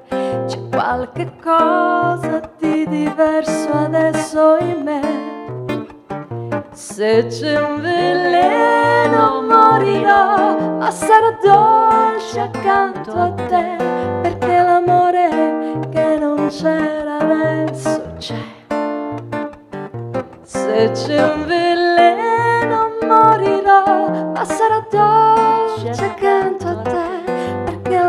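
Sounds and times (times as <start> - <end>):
woman singing pop melody: 0.0 - 19.2, 20.4 - 28.0
acoustic guitar: 0.0 - 28.0.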